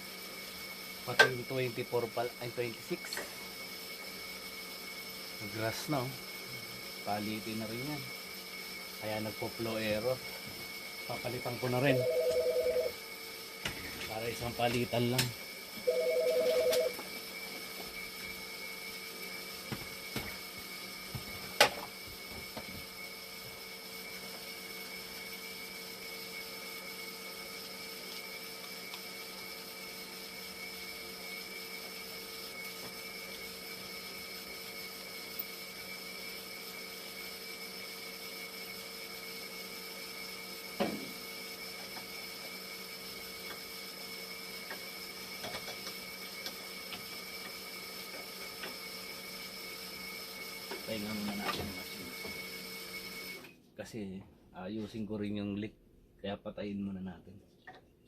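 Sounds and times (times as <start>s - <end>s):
machine pumps humming: 0.0s - 53.4s.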